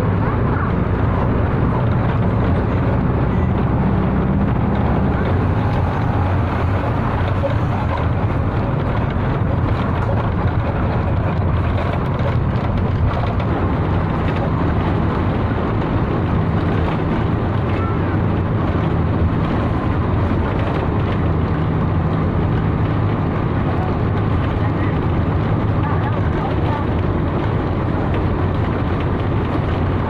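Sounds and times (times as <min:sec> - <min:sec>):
bus engine hum: 0:00.0 - 0:30.0
road and rattle noise: 0:00.0 - 0:30.0.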